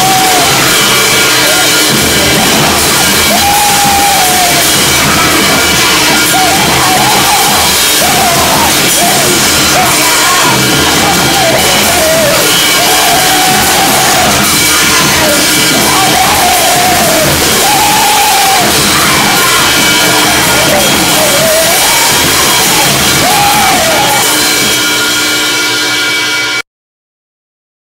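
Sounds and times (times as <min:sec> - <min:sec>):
distorted noise wall: 0:00.0 - 0:26.6.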